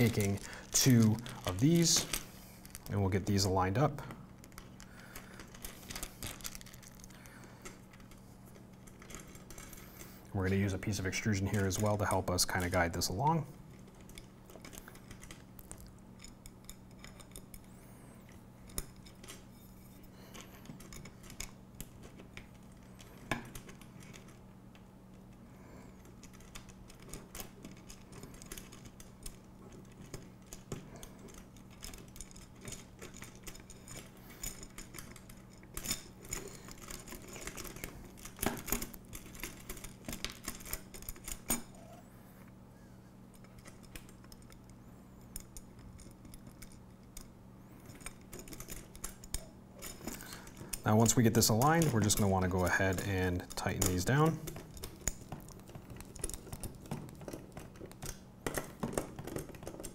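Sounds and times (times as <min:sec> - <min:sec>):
metal parts clicking and clinking: 0:00.0 - 0:24.8, 0:25.8 - 0:42.0, 0:43.3 - 0:59.9.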